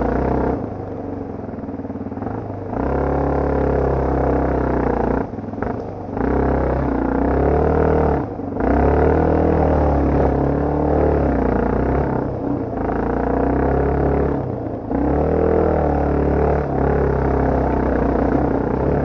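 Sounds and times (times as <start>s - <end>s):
dirt bike engine revving: 0.0s - 0.8s, 2.2s - 19.0s.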